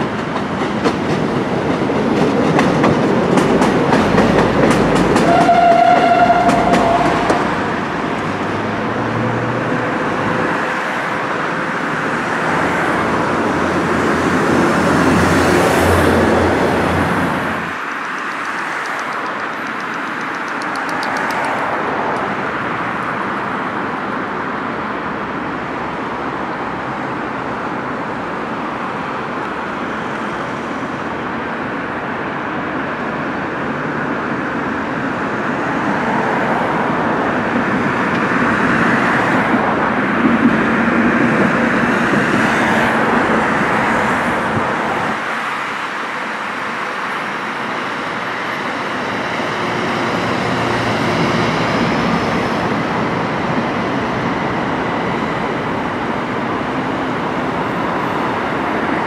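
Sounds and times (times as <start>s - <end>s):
diesel train passing: 0.0s - 59.0s
road traffic: 0.0s - 59.0s.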